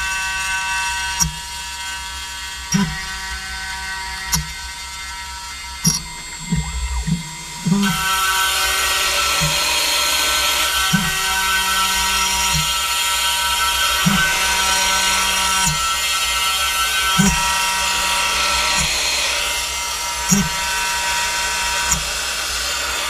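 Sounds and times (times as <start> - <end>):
milling spindle whine: 0.0 - 23.0
rough cutting noise: 1.0 - 23.0
short motor whirs: 1.0 - 23.0.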